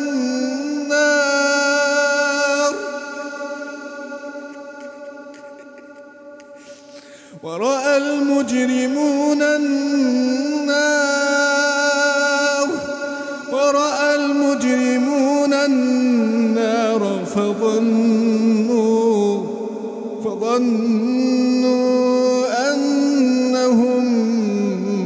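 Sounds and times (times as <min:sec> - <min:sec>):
man chanting melodically: 0:00.0 - 0:06.4, 0:07.3 - 0:25.0.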